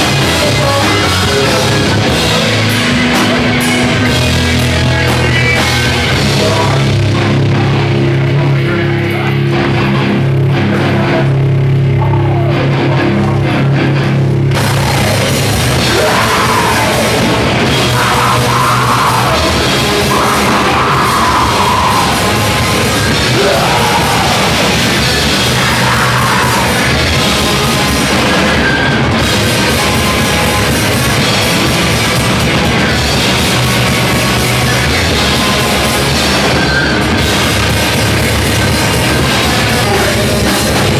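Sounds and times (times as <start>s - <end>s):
heavy rock music: 0.0s - 40.9s
held bass notes: 0.0s - 40.9s.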